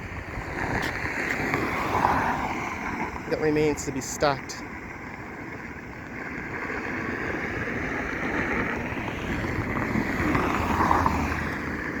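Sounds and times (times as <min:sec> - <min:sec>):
vehicle passing by: 0:00.0 - 0:04.9, 0:05.5 - 0:12.0.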